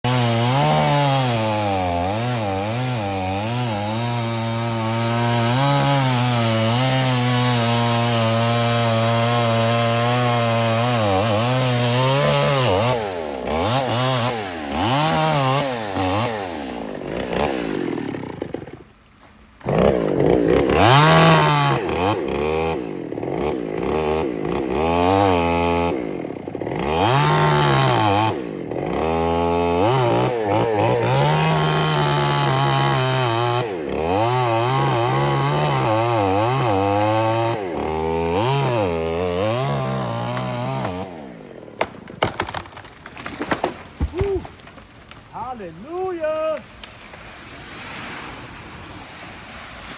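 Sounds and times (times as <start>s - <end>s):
chainsaw cutting through tree: 0.0s - 49.9s.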